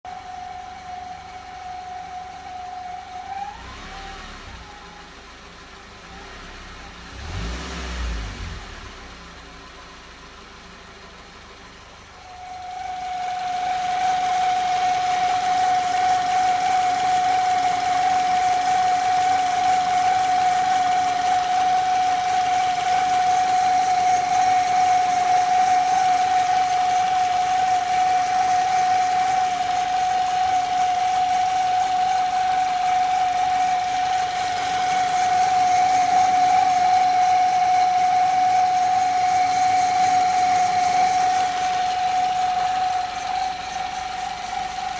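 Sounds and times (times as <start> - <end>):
car engine idling: 0.0 - 44.9
high pulley whistle: 0.1 - 5.1, 12.0 - 44.9.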